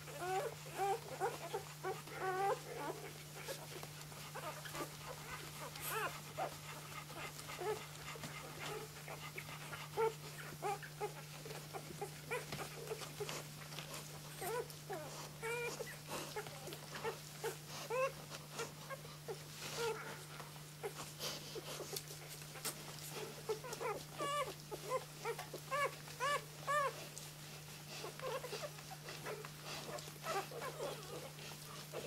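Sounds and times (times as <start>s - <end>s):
puppies squeaking and whimpering: 0.1s - 20.2s, 20.8s - 32.0s.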